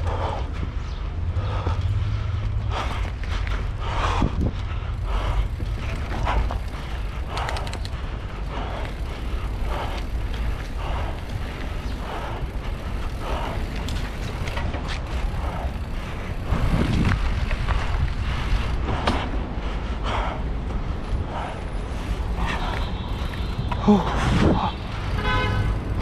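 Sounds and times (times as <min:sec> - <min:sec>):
bike tyre noise on dirt: 0:00.0 - 0:26.0
wind rumble on microphone: 0:00.0 - 0:26.0.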